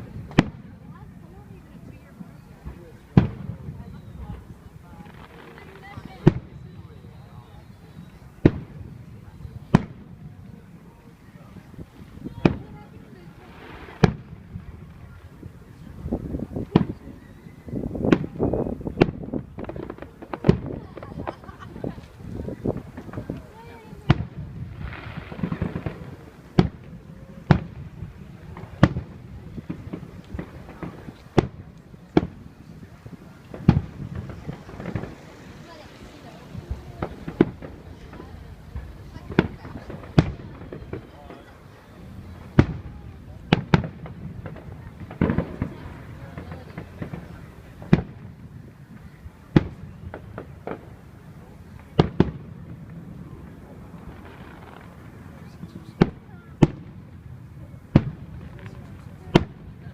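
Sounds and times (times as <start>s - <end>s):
fireworks bangs: 0.0s - 59.9s
small fireworks pops: 0.0s - 59.9s.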